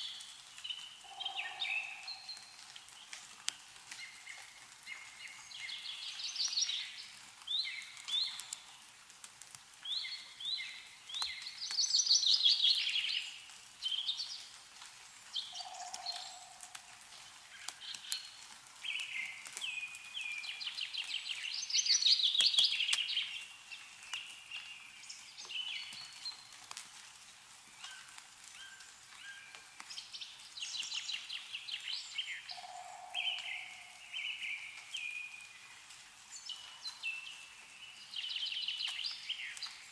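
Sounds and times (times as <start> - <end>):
meltwater dripping: 0.1 - 39.9.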